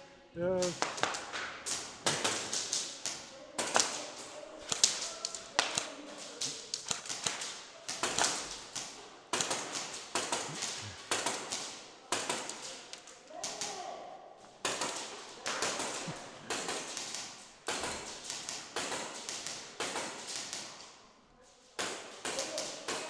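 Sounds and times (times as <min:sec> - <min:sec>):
airsoft guns firing: 0:00.6 - 0:13.9, 0:14.6 - 0:20.9, 0:21.8 - 0:23.0.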